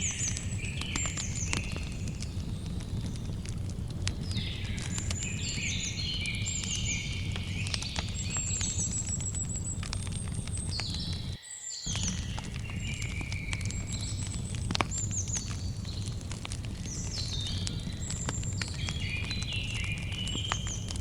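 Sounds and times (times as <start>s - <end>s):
birds chirping: 0.0s - 21.0s
campfire crackling: 0.0s - 21.0s
low steady rumble: 0.0s - 21.0s.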